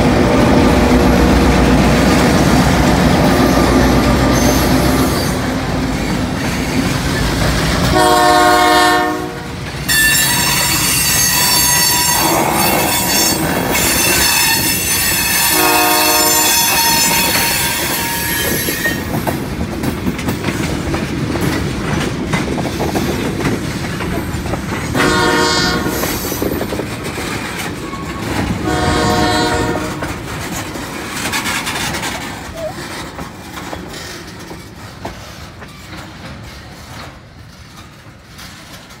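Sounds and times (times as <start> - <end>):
freight train rumble: 0.0 - 39.0
train wheels clicking on rail joints: 0.0 - 39.0.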